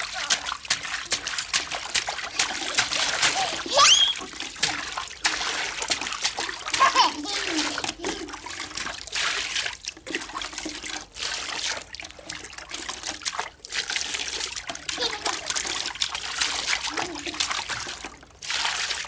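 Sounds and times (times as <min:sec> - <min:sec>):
water splashing in a tub: 0:00.0 - 0:19.0.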